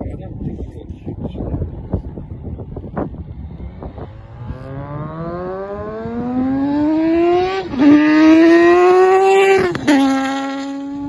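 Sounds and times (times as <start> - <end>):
motorcycle engine accelerating: 1.6 - 11.0.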